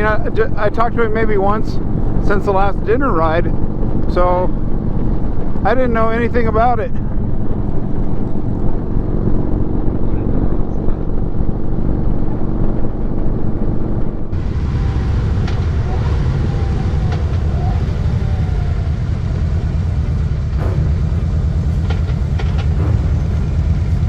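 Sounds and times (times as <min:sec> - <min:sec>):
wind rumble on microphone: 0:00.0 - 0:24.0
motorcycle engine running: 0:01.8 - 0:24.0.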